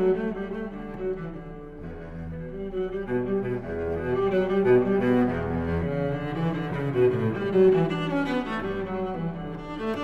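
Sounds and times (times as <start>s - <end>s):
instrumental music: 0.0s - 10.0s.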